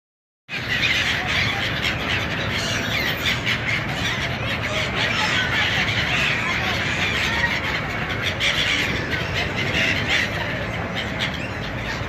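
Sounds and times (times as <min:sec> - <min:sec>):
gulls calling: 0:00.5 - 0:12.0.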